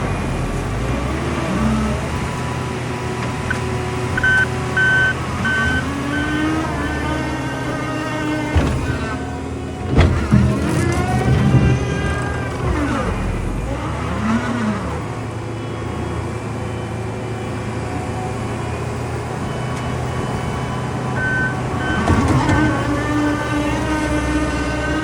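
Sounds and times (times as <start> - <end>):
skid steer diesel engine running: 0.0 - 25.0.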